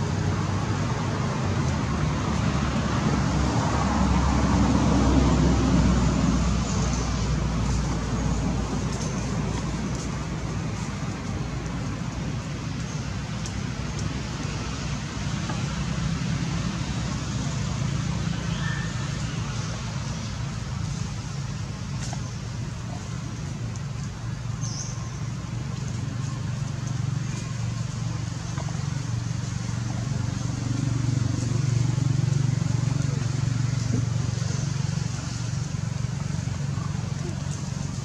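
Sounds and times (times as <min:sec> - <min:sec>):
low motor rumble: 0:00.0 - 0:38.0.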